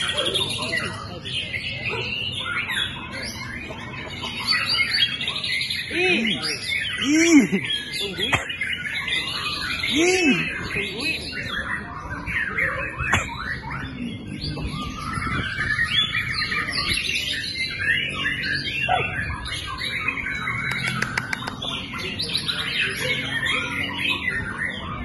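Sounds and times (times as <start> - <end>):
low background murmur: 0.0 - 25.0
songbirds singing: 0.0 - 25.0.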